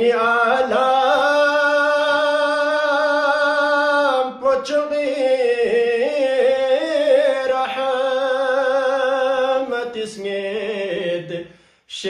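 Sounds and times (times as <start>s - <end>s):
man singing devotional chant: 0.0s - 12.0s.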